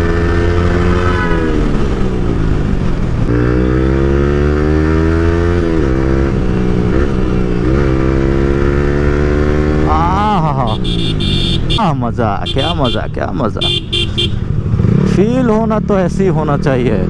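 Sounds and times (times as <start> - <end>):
motorcycle engine accelerating: 0.0 - 11.8, 12.5 - 17.0.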